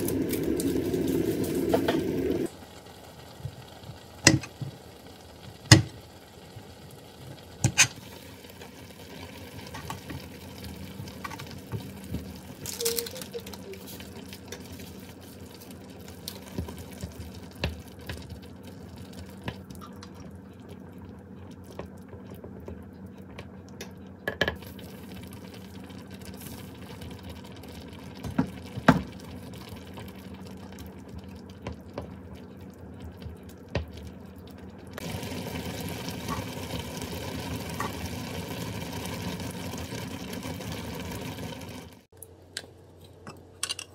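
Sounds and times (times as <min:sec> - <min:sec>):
broth simmering: 0:00.0 - 0:42.3.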